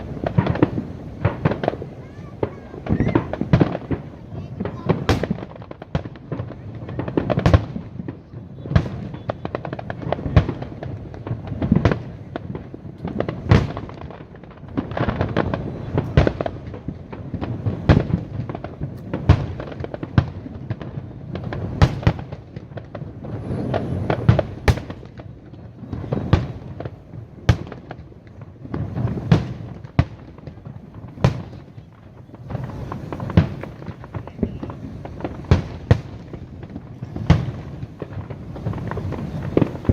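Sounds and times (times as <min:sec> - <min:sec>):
firework bangs: 0:00.0 - 0:39.9
fireworks crackling: 0:00.0 - 0:39.9
fireworks rumble: 0:00.0 - 0:39.9.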